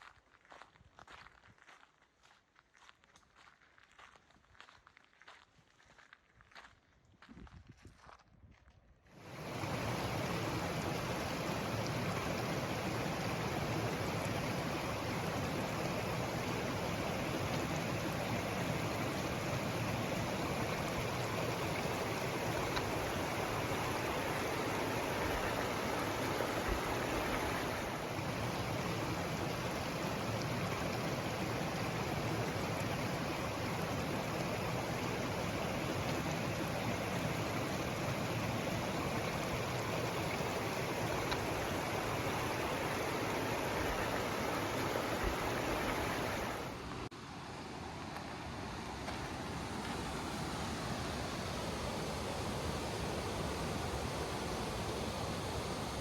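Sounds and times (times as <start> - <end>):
mountain stream rushing: 9.2 - 56.0.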